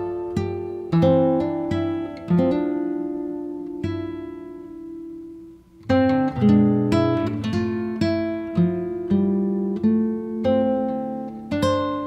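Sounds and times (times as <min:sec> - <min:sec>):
acoustic guitar plucked chords: 0:00.0 - 0:12.0.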